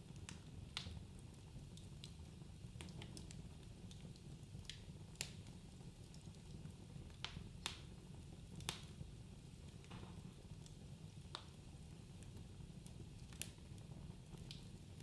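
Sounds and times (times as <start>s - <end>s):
low rumble of burning logs: 0.0s - 15.0s
wood fire crackling and popping: 0.0s - 15.0s.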